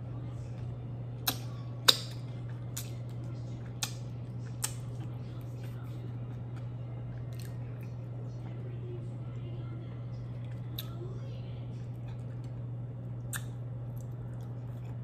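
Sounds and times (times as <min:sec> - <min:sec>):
low electrical hum: 0:00.0 - 0:15.0
chewing clicks and crunches: 0:00.5 - 0:08.6, 0:10.3 - 0:11.0, 0:11.8 - 0:15.0.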